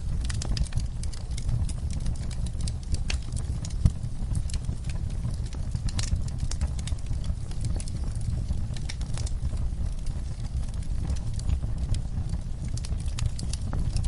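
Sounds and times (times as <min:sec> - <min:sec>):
low steady rumble: 0:00.0 - 0:14.0
wood fire crackling: 0:00.0 - 0:14.0.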